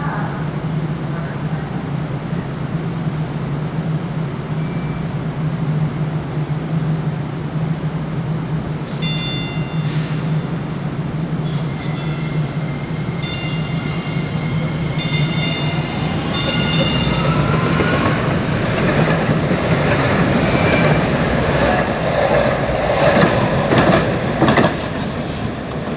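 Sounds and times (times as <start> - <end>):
train wheels rumbling on rails: 0.1 - 25.9.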